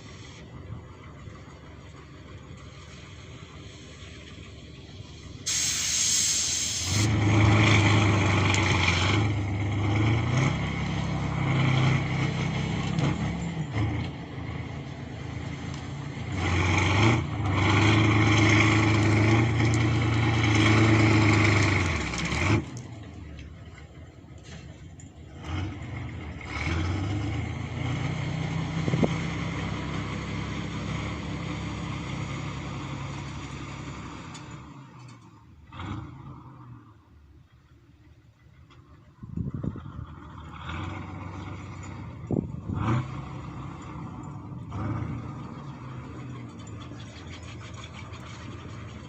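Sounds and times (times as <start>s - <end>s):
tractor diesel engine working hard: 0.0s - 49.0s.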